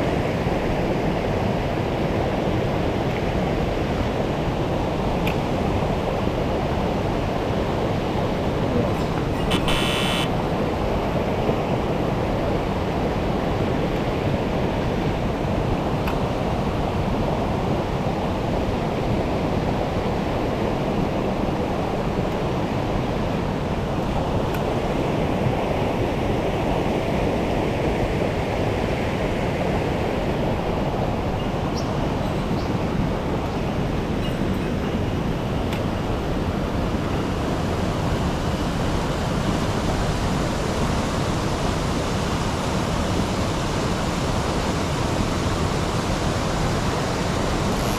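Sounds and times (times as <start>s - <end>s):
stream water rushing: 0.1s - 47.9s.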